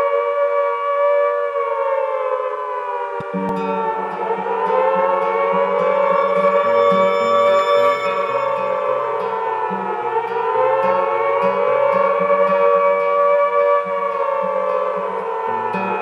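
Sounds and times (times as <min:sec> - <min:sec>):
wailing siren-like tone: 0:00.0 - 0:16.0.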